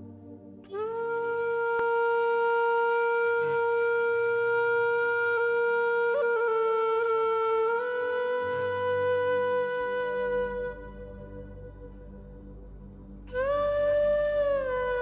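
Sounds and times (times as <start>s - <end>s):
flute-like long note: 0.0s - 15.0s.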